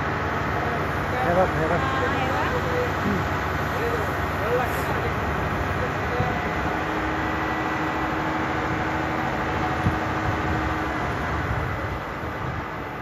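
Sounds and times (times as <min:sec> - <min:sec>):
pump running: 0:00.0 - 0:13.0.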